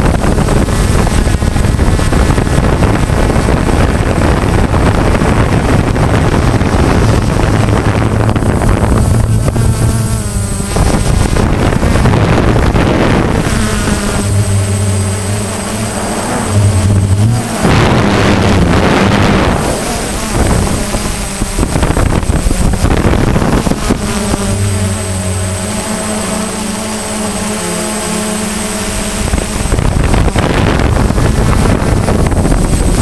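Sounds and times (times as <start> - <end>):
drone motors buzzing: 0.0 - 33.0
wind noise on microphone: 0.0 - 33.0.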